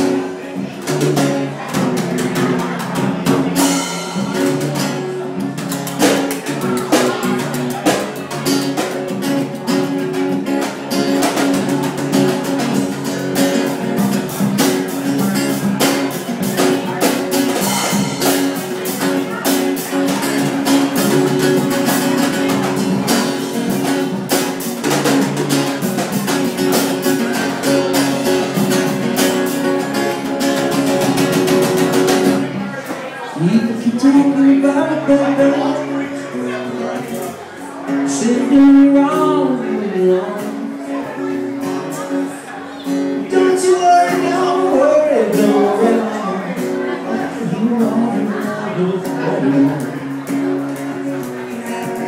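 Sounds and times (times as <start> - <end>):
drums playing a beat: 0.0 - 33.1, 42.9 - 52.0
acoustic guitar strumming: 0.0 - 52.0.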